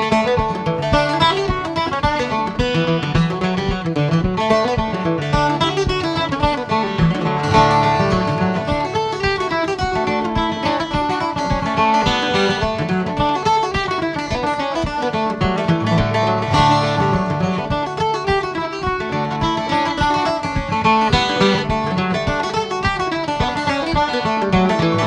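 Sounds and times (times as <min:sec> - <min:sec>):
acoustic guitar strumming: 0:00.0 - 0:25.0
plucked string instrument: 0:00.0 - 0:25.0.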